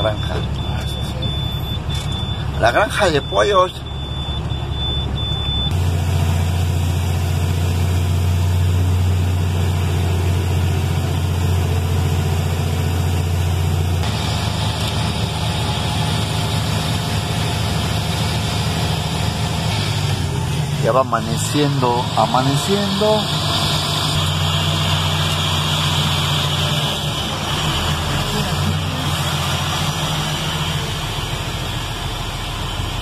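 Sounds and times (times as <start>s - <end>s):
truck engine rumbling: 0.0s - 33.0s.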